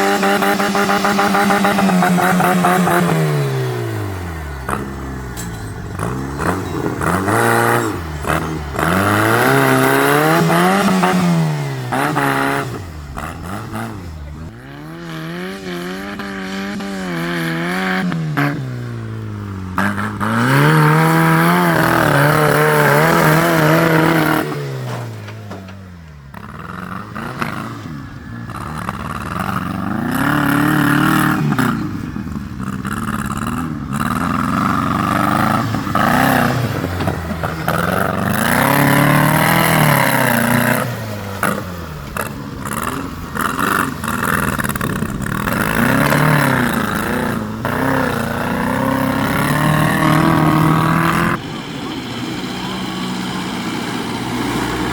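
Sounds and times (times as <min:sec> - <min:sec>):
tractor engine revving: 0:00.0 - 0:54.9.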